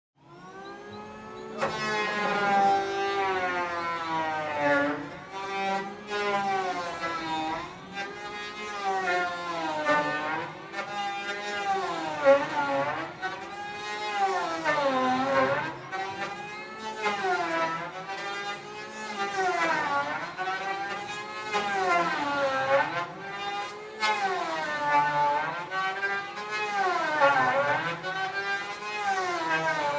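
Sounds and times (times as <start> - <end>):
electric planer whining: 0.2 - 29.9.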